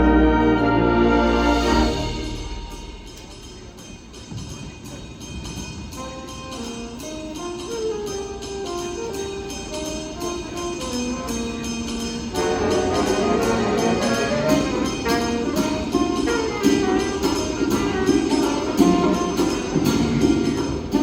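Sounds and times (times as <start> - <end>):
wind band playing: 0.0 - 3.9, 5.8 - 21.0.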